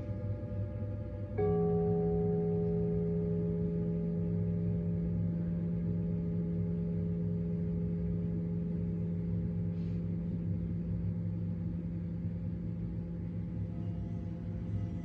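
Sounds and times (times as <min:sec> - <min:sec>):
ringing drone tones: 0:00.0 - 0:15.0.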